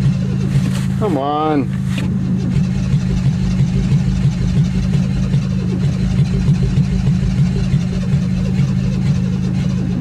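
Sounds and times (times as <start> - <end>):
starter motor cranking engine: 0.0 - 10.0.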